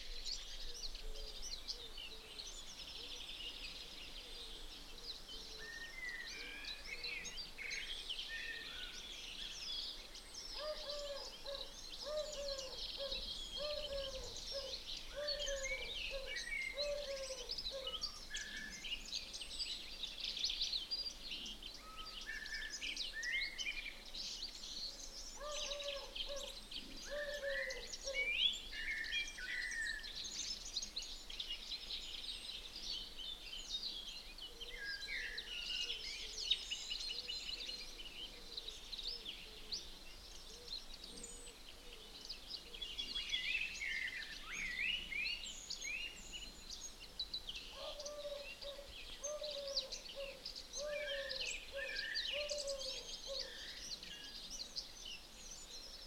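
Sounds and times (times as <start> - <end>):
faint outdoor background noise: 0.0 - 56.0
songbirds chirping and trilling: 0.0 - 56.0.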